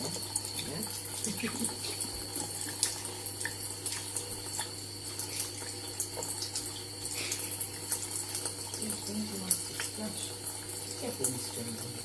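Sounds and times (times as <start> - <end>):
tap running: 0.0 - 12.0.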